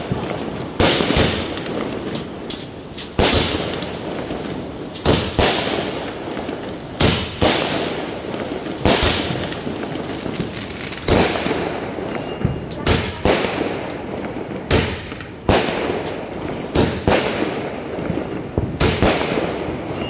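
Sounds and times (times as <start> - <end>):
firework bangs: 0.0 - 20.0
firework hiss: 0.0 - 20.0.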